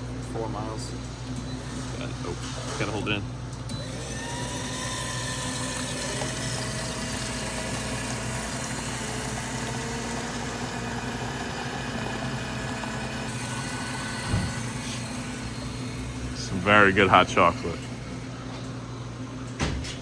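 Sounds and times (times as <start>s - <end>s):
drink machine pump humming: 0.0s - 20.0s.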